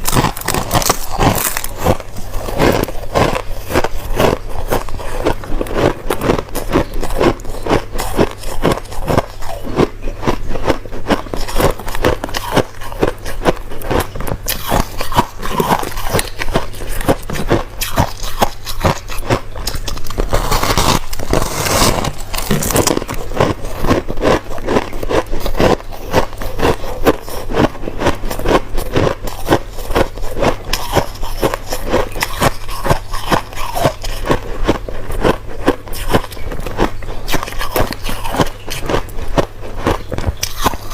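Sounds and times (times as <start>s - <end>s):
crushed ice being chewed: 0.0s - 40.9s
low steady hum: 0.0s - 40.9s.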